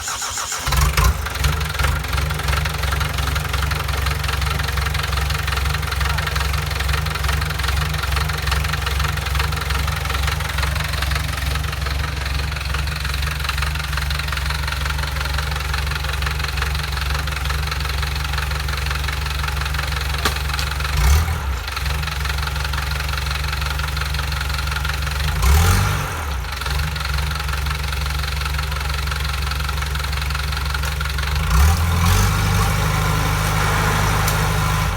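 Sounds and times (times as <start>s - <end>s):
bulldozer diesel engine idling: 0.0s - 34.9s.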